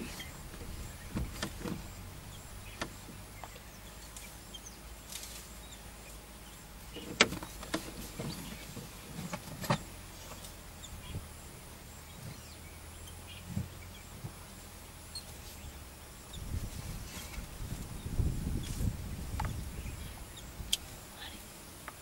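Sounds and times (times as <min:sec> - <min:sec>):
vehicle engine idling: 0:00.0 - 0:21.4.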